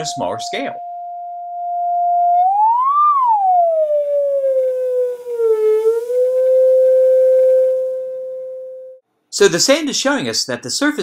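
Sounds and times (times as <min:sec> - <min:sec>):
pure tone sweeping in pitch: 0:00.0 - 0:09.0.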